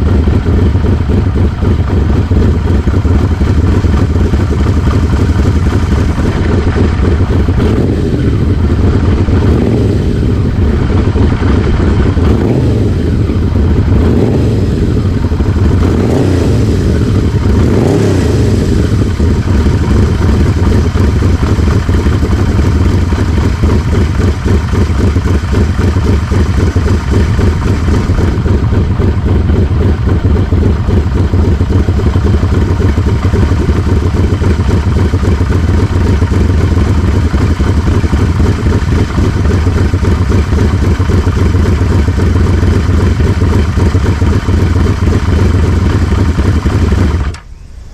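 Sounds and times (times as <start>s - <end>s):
motorcycle engine revving and idling: 0.0s - 47.9s.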